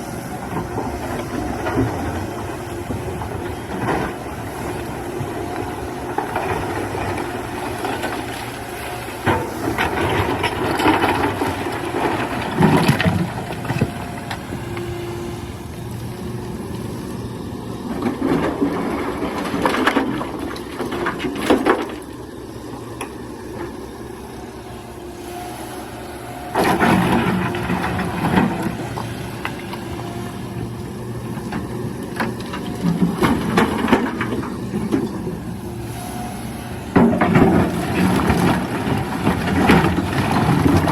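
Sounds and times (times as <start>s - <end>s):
excavator digging: 0.0s - 40.9s
excavator engine running: 0.0s - 40.9s.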